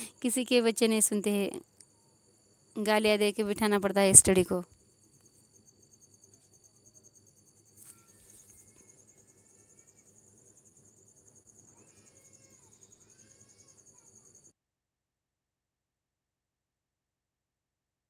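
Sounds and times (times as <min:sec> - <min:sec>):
high-pitched pulsing insect trill: 0:00.0 - 0:14.5.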